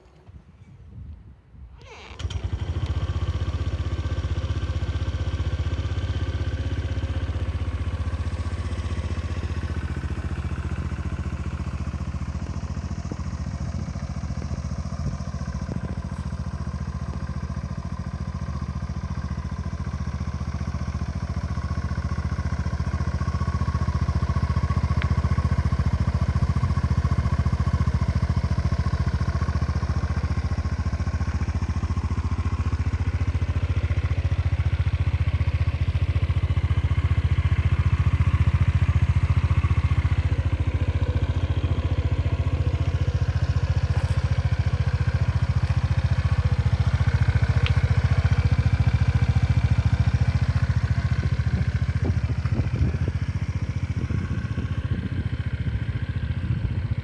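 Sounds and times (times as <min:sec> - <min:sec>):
scooter engine idling: 0:01.8 - 0:57.0.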